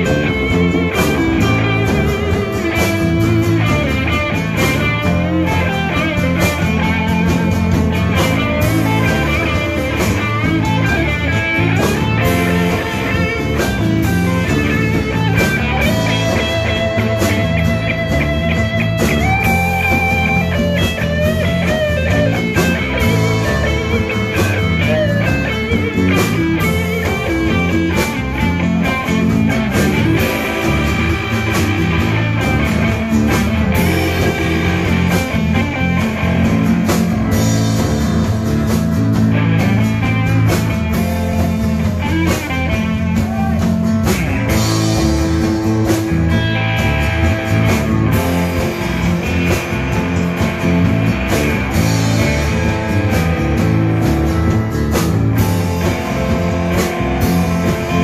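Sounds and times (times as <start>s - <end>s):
bass guitar: 0.0s - 58.0s
drum kit: 0.0s - 58.0s
electric guitar lead: 0.0s - 58.0s.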